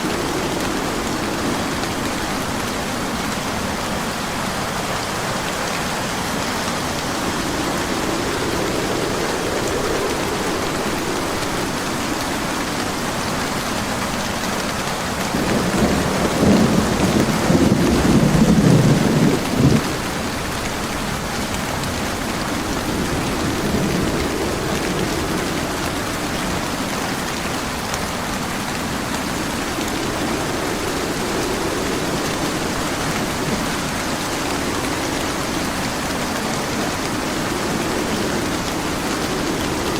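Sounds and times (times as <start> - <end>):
thunder rumbling: 0.0 - 14.2, 15.0 - 39.9
rain falling: 0.0 - 39.9.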